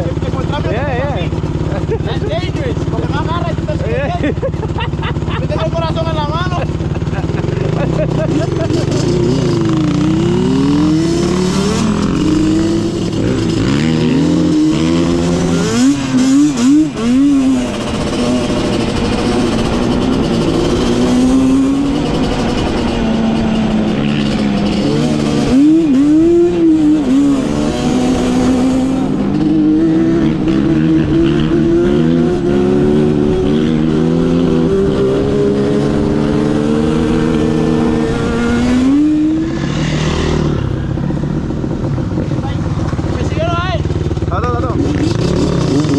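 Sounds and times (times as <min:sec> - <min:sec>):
off-road vehicle engine revving: 0:00.0 - 0:45.9.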